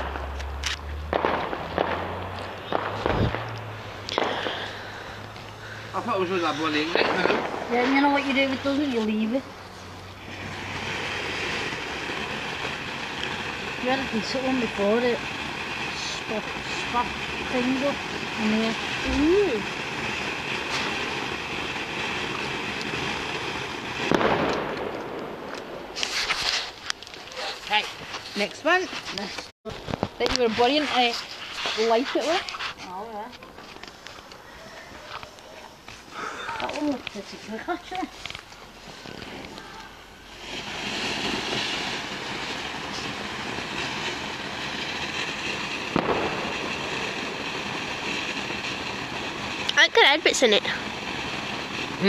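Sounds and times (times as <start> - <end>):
firework crackling burst: 0.0 - 52.0
firework fountain hissing: 0.0 - 52.0.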